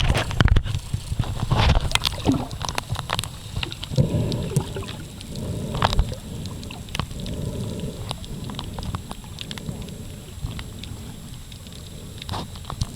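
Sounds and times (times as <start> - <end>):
water sloshing and gurgling: 0.0 - 12.9.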